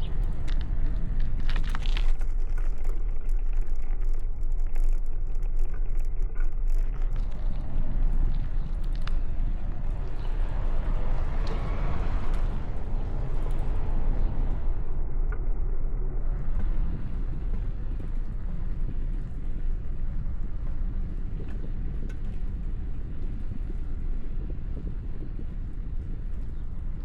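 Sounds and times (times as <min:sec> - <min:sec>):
road and traffic noise: 0:00.0 - 0:02.9, 0:06.8 - 0:27.0
wind buffeting microphone: 0:00.0 - 0:27.0.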